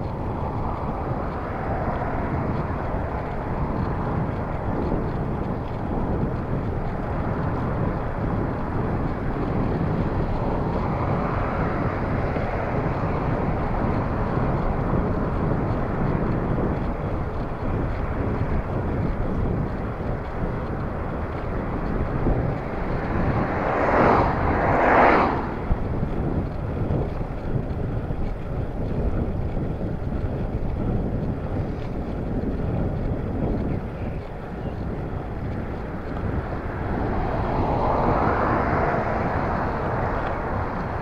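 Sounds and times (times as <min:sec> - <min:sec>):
road traffic passing: 0:00.0 - 0:41.0
wind rushing over microphone: 0:00.0 - 0:41.0.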